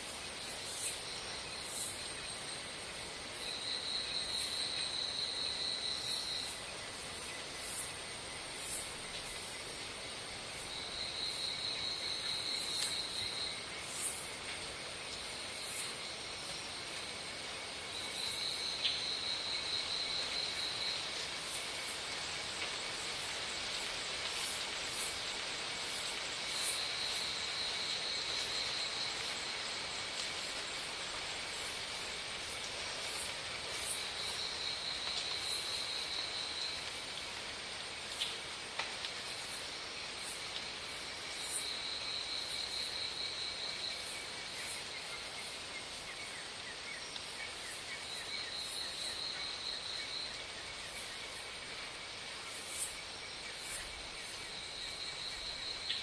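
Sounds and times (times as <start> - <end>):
steady high insect hum: 0.0 - 56.0.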